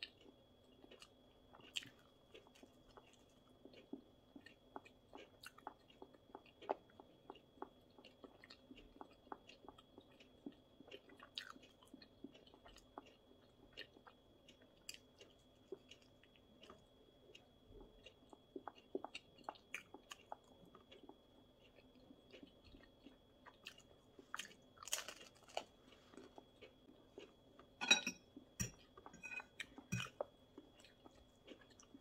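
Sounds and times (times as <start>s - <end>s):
crisp food crunching: 0.0s - 27.7s.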